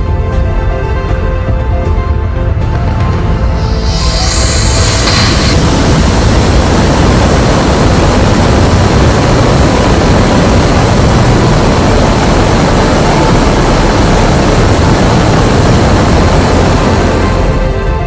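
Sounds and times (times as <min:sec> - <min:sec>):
rocket engine roaring: 0:03.1 - 0:18.0.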